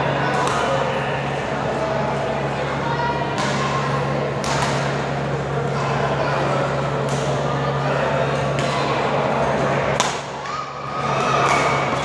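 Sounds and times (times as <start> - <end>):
babble of voices: 0.0 - 12.0
constant low hum: 0.0 - 12.0.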